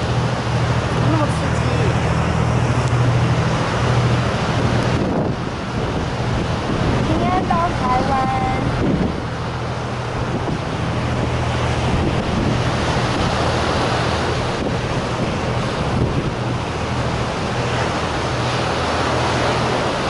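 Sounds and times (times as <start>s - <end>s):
strong wind buffeting microphone: 0.0s - 20.0s
surf and breaking waves: 0.0s - 20.0s.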